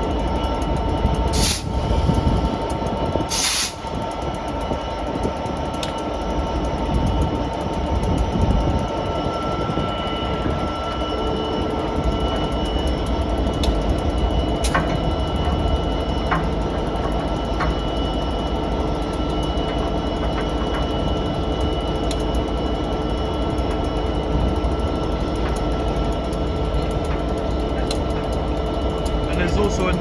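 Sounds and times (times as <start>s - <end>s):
locomotive idling rumble: 0.0s - 30.0s.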